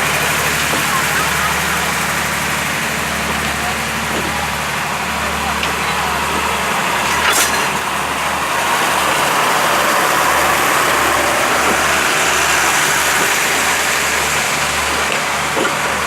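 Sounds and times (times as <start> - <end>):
large engine idling: 0.0 - 16.0.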